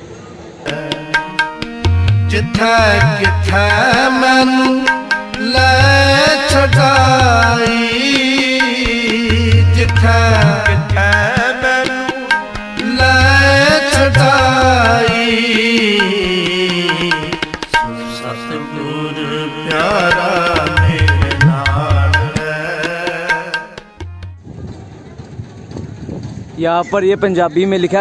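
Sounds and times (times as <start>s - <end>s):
sustained melodic line: 0.7s - 24.4s
tabla playing a rhythm: 0.7s - 24.5s.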